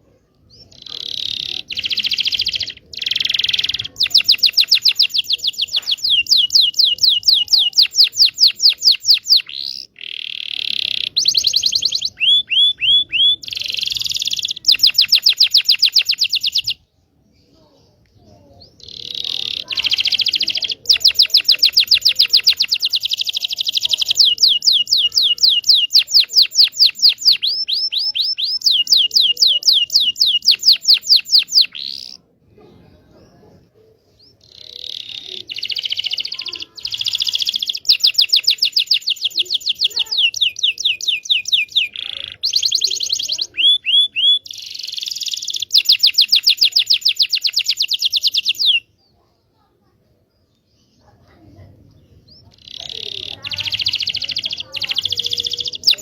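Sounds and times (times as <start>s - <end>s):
canary singing: 0.0s - 32.4s, 33.4s - 49.2s, 50.4s - 56.0s.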